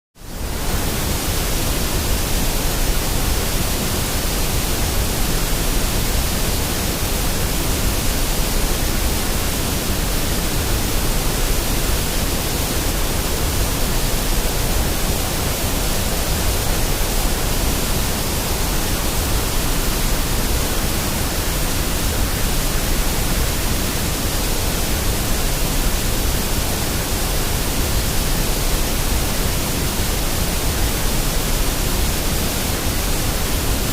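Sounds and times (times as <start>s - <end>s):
steady white noise hiss: 0.2s - 33.9s.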